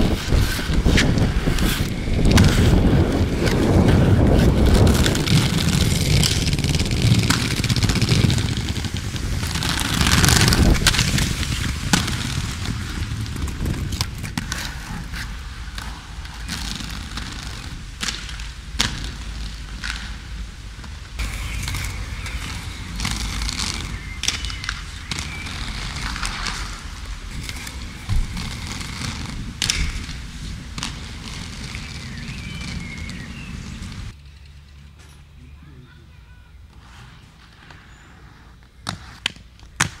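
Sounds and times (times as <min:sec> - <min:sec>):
inline skate wheels rolling: 0:00.0 - 0:35.0, 0:36.7 - 0:40.0
skates clacking on ground: 0:00.0 - 0:35.4, 0:36.2 - 0:40.0.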